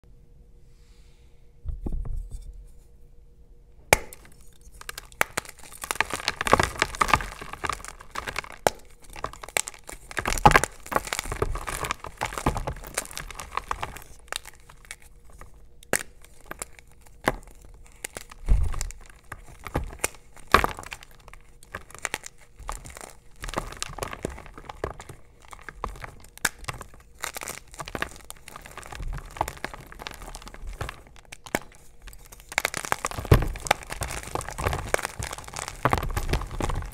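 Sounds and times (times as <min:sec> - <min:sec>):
chalk blocks cracking: 0:04.0 - 0:36.9
chalk crunching and crumbling: 0:04.0 - 0:36.9.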